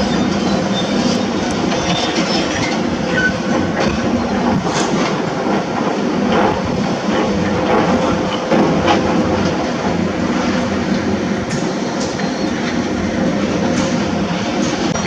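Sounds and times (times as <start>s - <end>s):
excavator diesel engine: 0.0s - 15.0s.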